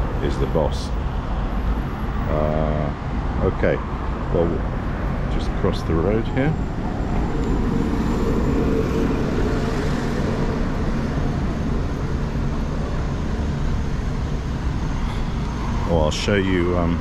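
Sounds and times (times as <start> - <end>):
faint engine hum: 0.0 - 17.0
road traffic rumble: 0.0 - 17.0.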